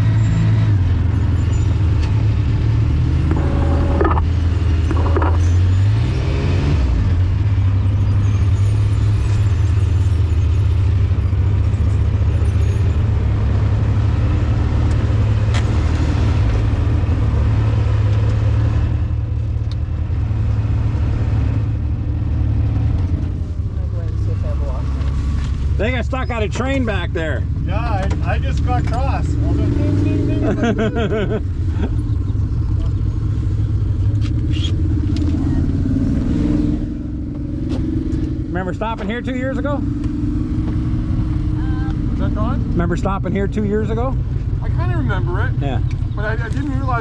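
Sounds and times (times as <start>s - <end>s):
utility vehicle engine droning: 0.0s - 47.0s.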